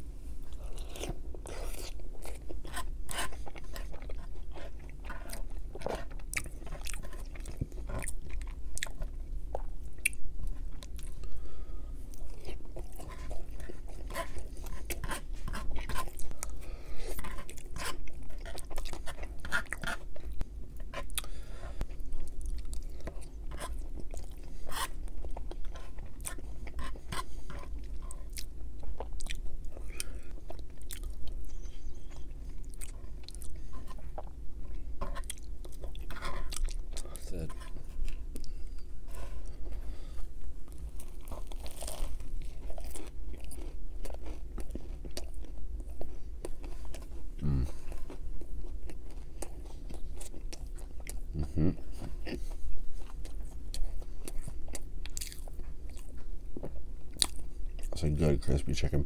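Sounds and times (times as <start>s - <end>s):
chewing and biting food: 0.4s - 58.6s.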